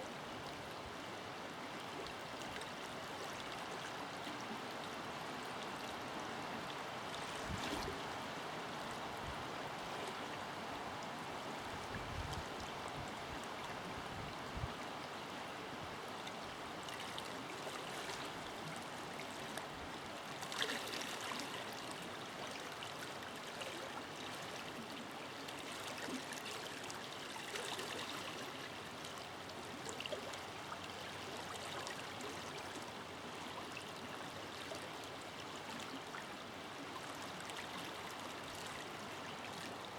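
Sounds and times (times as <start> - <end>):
river water rushing and gurgling: 0.0 - 39.9.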